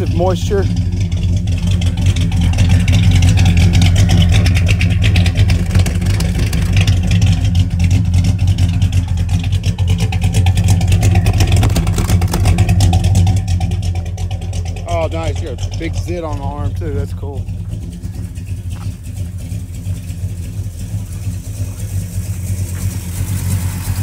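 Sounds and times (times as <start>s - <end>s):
engine idling at exhaust: 0.0s - 24.0s.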